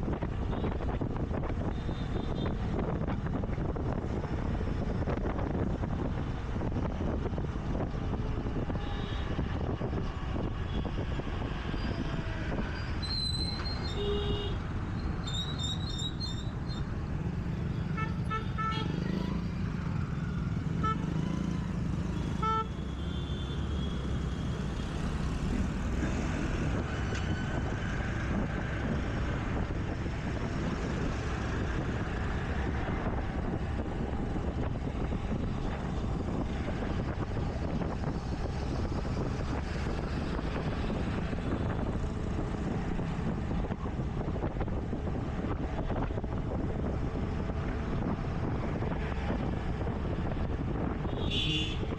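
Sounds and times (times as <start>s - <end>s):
engines humming: 0.0s - 51.9s
wind and road noise: 0.0s - 51.9s.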